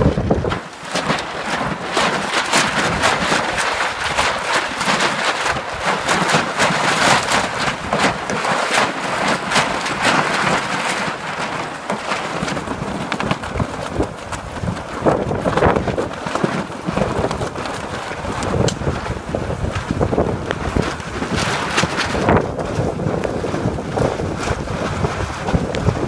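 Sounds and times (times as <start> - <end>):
crackles on microphone: 0.0 - 26.0
gusty wind with rain: 0.0 - 26.0.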